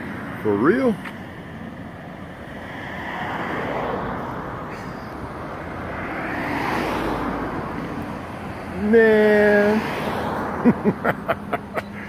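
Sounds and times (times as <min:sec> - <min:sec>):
vehicles passing by: 0:00.0 - 0:12.0.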